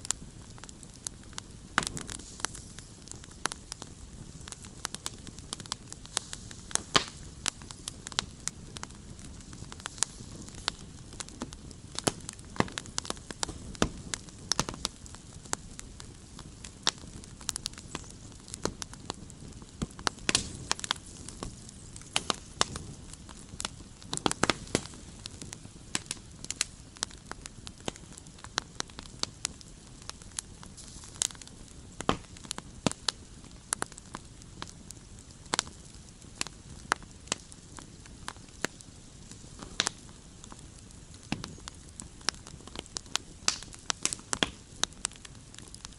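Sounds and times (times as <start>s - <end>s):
campfire crackling: 0.0s - 45.9s
low hiss: 0.0s - 45.9s
sharp pops and snaps: 0.1s - 34.4s, 38.3s - 45.9s.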